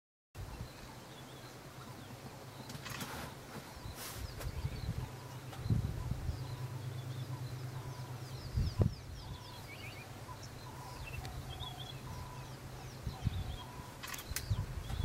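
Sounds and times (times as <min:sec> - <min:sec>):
birds chirping: 0:00.4 - 0:15.0
low hum: 0:00.4 - 0:15.0.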